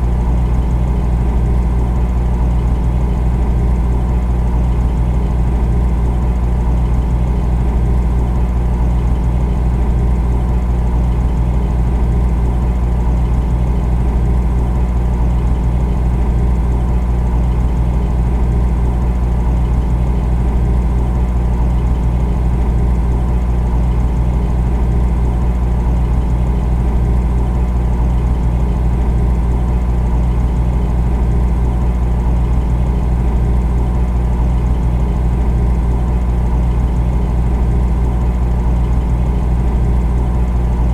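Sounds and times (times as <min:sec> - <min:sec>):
refrigerator compressor hum: 0:00.0 - 0:40.9.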